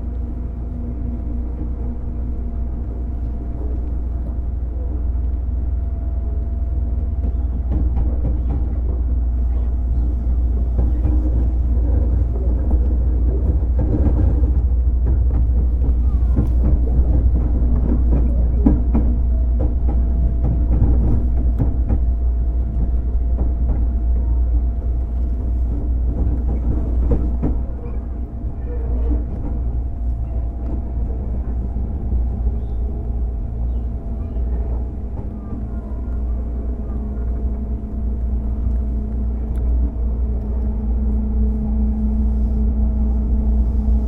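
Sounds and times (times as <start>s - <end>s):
faint whining tones: 0.0s - 44.0s
train wheels rumbling on rail: 0.0s - 44.0s.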